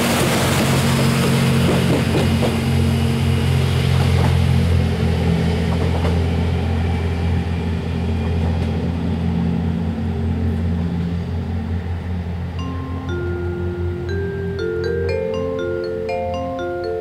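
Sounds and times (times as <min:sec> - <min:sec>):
train engine low drone: 0:00.0 - 0:17.0.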